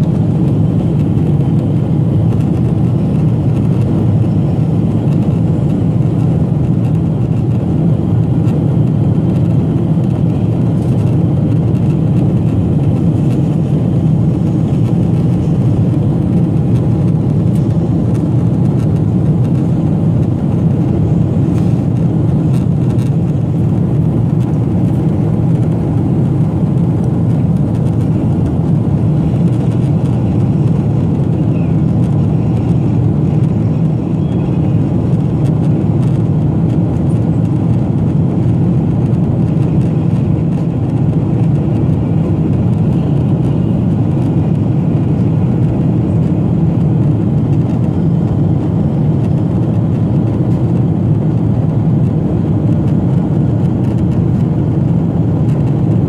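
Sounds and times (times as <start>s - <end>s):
jet airliner cabin rumble: 0.0s - 56.0s.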